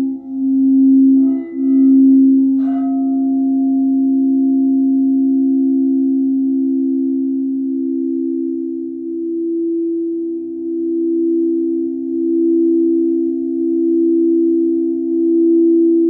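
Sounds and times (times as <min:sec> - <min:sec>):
singing bowl struck ringing: 0:00.0 - 0:16.0
singing bowls sustained tones: 0:00.0 - 0:16.0.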